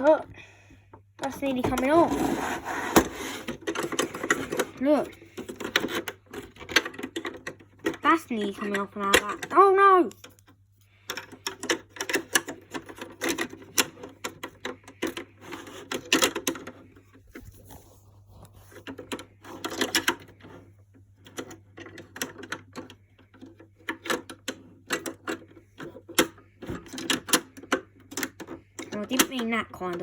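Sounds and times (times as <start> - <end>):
hard plastic clicking and rattling: 1.2 - 17.6, 18.7 - 30.0.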